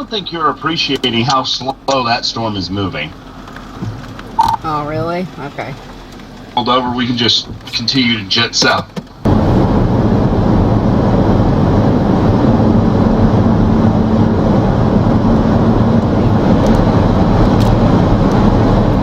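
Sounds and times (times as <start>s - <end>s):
car driving at speed: 0.0s - 19.0s.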